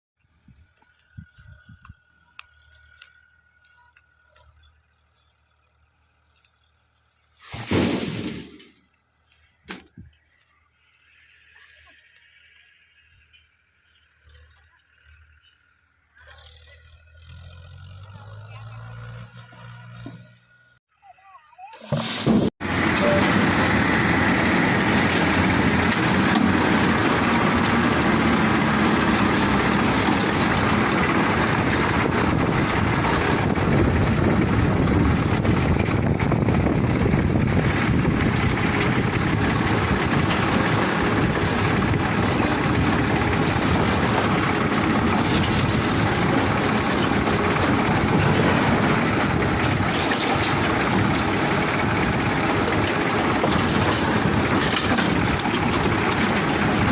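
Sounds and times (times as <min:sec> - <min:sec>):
tractor diesel engine running: 0:00.2 - 0:56.9.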